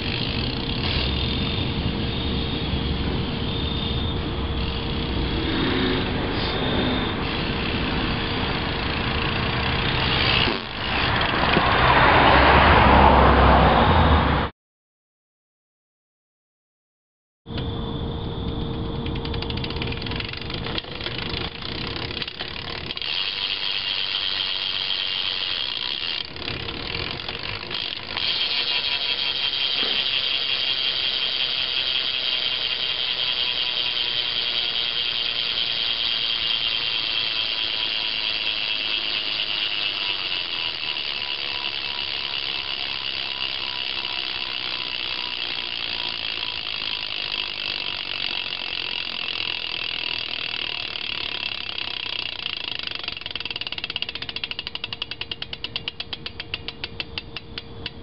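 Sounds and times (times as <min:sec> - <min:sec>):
bike hub freewheel ratcheting: 0:00.0 - 0:12.0, 0:18.4 - 0:58.0.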